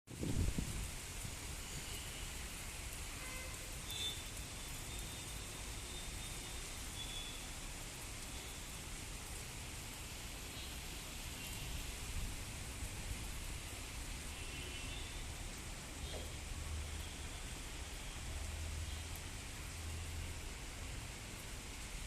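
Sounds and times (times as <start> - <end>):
steady rain falling: 0.1 - 22.0.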